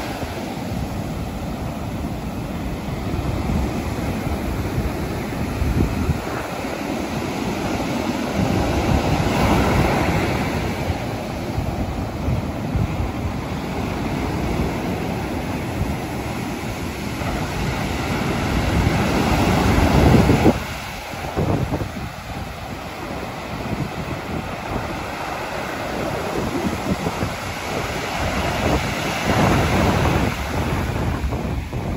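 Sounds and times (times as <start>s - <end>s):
ocean surf breaking on beach: 0.0s - 31.9s
wind buffeting microphone: 0.0s - 31.9s.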